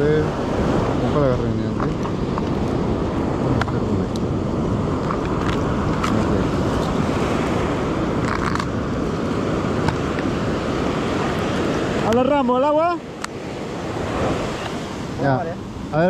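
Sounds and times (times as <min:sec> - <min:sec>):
surf breaking on beach: 0:00.0 - 0:16.0
wind on microphone: 0:00.0 - 0:16.0.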